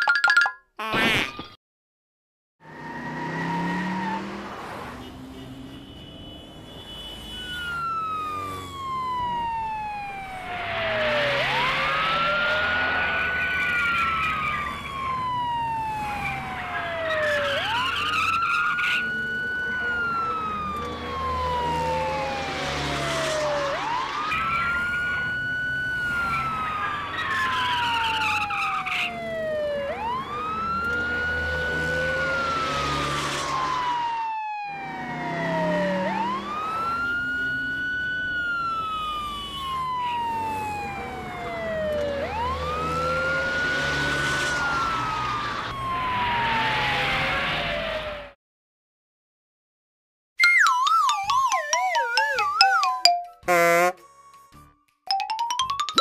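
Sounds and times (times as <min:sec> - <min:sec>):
police siren wailing: 0:02.6 - 0:04.5, 0:07.4 - 0:48.4, 0:50.5 - 0:53.9.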